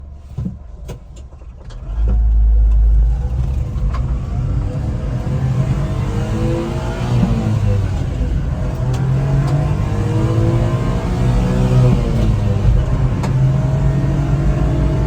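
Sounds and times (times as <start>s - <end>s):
small truck engine running: 1.4s - 15.0s.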